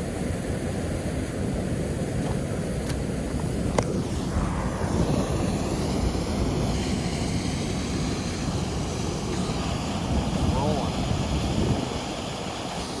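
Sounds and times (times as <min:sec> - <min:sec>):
river water pouring over falls: 0:00.0 - 0:13.0.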